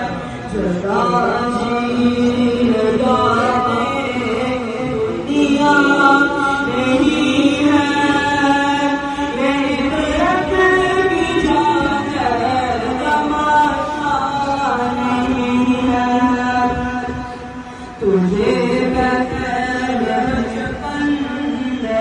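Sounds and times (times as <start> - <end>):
person singing unaccompanied: 0.0 - 22.0.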